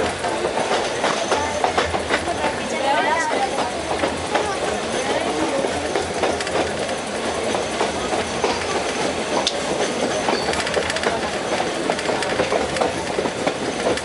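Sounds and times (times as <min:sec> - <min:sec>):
train wheels clattering over rails: 0:00.0 - 0:14.0.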